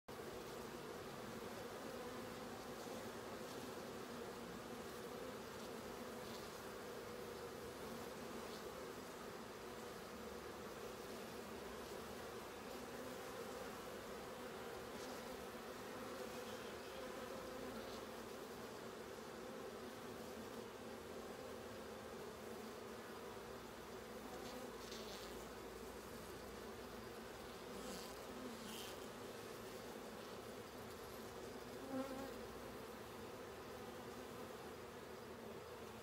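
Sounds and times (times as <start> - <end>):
honeybees humming: 0.1 - 36.0.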